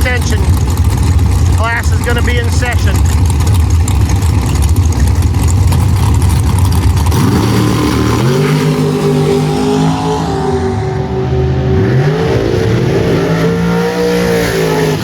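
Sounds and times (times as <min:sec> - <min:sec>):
drag race engine rumble: 0:00.0 - 0:15.0.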